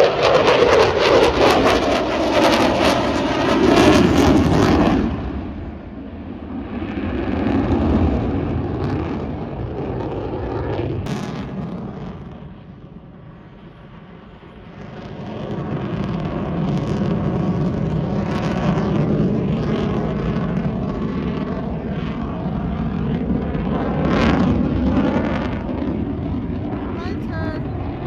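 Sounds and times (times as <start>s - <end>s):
aircraft engine roar: 0.0s - 28.0s.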